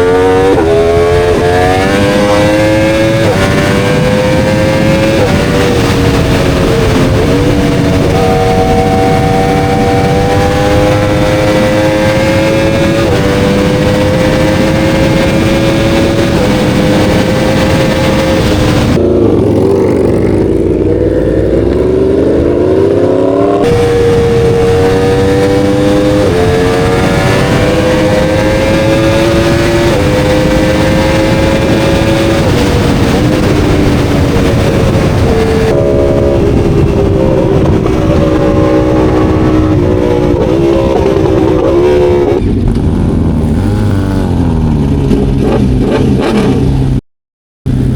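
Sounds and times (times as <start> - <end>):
motorcycle engine: 0.0 - 47.0.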